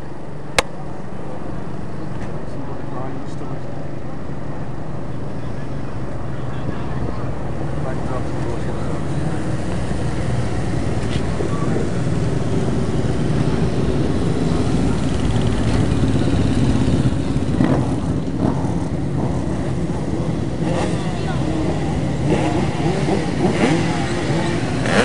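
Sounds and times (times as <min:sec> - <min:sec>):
race motorcycle engines droning: 0:00.0 - 0:25.0.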